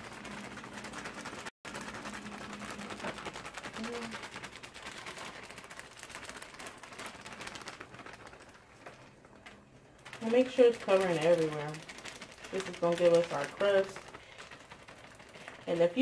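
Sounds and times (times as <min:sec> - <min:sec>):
plastic bag crinkling and rustling: 0:00.0 - 0:16.0.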